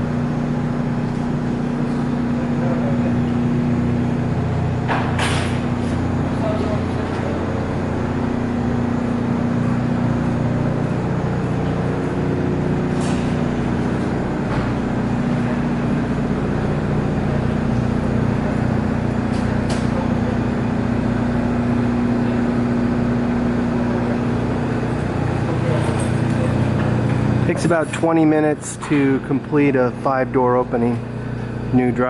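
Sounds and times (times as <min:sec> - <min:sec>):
refrigeration machinery hum: 0:00.0 - 0:32.0.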